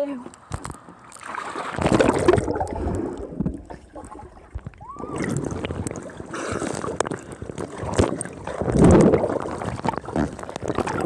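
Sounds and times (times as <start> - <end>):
pool water splashing and gurgling: 0.5 - 11.0.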